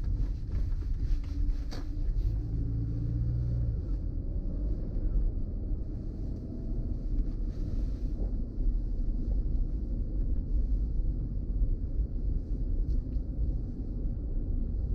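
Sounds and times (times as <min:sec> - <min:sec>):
car engine rumble: 0:00.0 - 0:14.9
road noise: 0:00.0 - 0:14.9.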